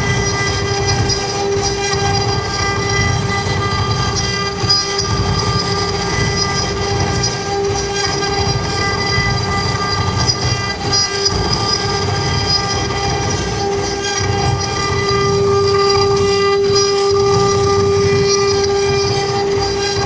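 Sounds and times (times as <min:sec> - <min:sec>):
cnc router whine: 0:00.0 - 0:20.0.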